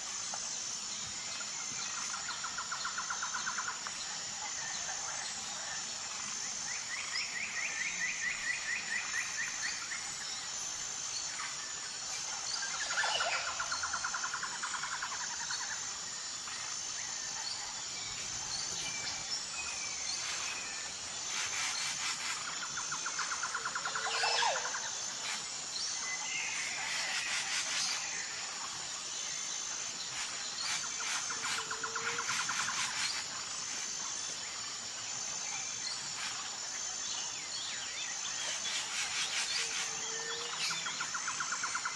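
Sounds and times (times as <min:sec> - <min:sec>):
high insect trill: 0:00.0 - 0:41.9.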